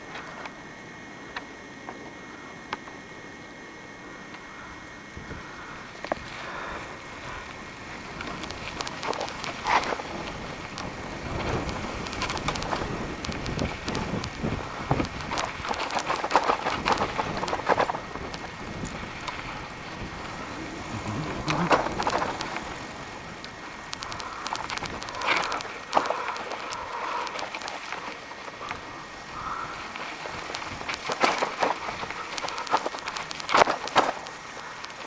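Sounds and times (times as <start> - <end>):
bicycle tyres crunching on dirt: 3.3 - 35.0
clicks and rattles over bumps: 5.3 - 35.0.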